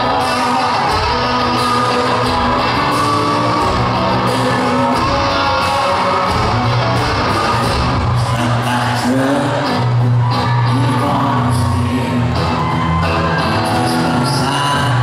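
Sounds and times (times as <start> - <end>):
live country-rock band: 0.0 - 15.0.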